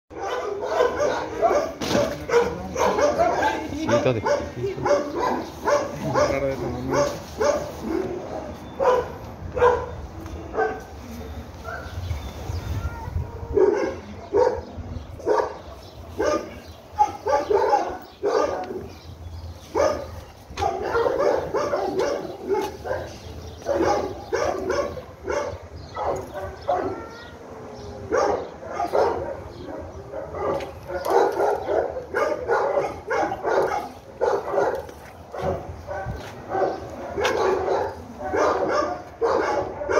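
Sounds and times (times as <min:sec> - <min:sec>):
dog barking and yipping: 0:00.1 - 0:09.9, 0:10.5 - 0:10.9, 0:13.5 - 0:19.0, 0:19.7 - 0:27.2, 0:28.1 - 0:39.9.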